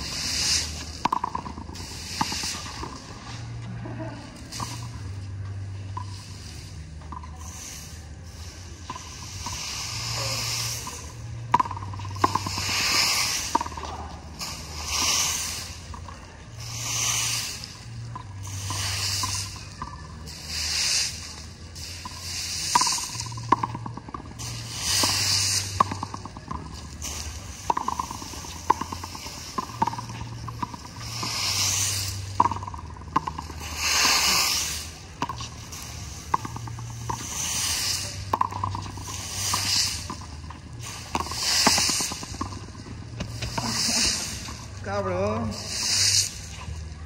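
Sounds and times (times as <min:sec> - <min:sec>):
broom sweeping concrete: 0:00.0 - 0:47.0.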